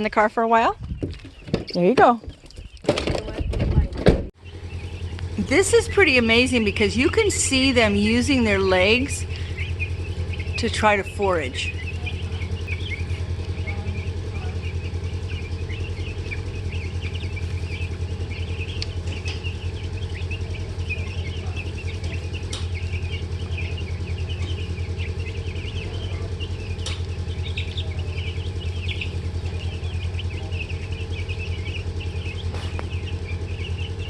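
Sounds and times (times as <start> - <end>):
chicks peeping: 0.0 - 34.0
low hum: 0.0 - 34.0.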